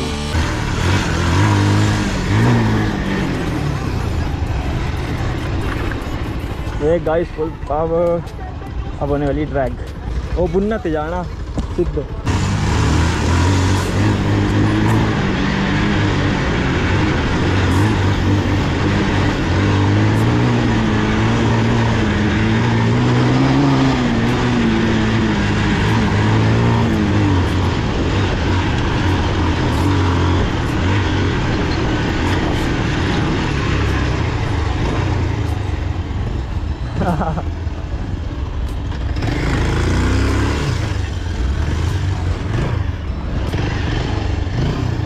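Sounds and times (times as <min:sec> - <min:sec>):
motorcycle engine: 0:00.0 - 0:45.0.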